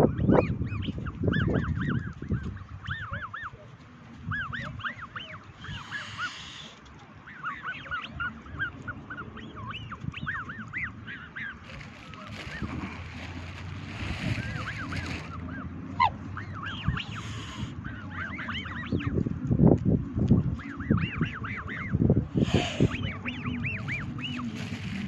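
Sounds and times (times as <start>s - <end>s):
cygnets peeping: 0.0s - 3.6s, 4.2s - 25.0s.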